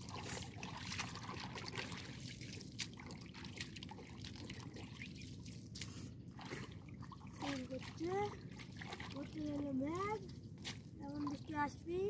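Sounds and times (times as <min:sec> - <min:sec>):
pond water trickling and splashing: 0:00.0 - 0:12.0
small drips and splashes: 0:00.0 - 0:12.0.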